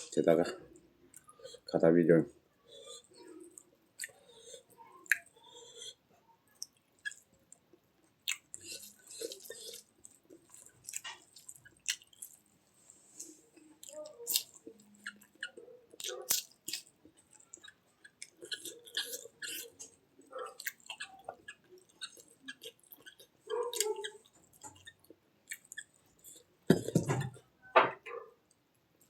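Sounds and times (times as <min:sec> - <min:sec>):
person chewing food: 0:00.0 - 0:01.8, 0:02.6 - 0:27.5.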